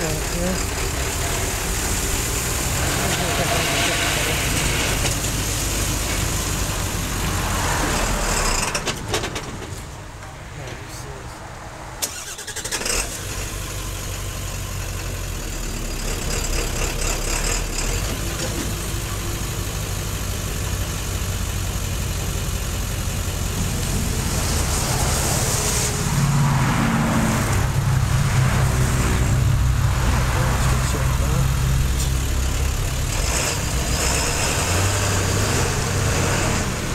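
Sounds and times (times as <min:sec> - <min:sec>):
diesel locomotive engine rumble: 0:00.0 - 0:36.9.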